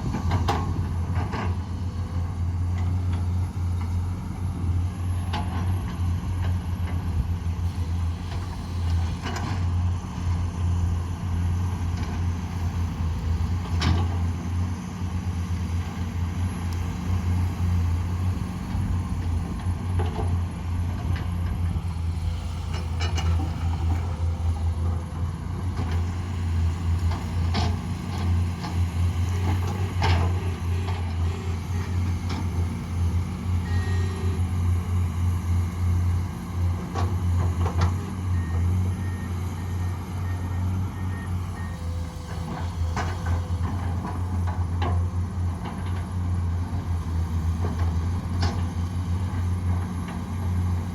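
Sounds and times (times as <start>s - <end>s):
heavy diesel engines droning: 0.0s - 50.9s.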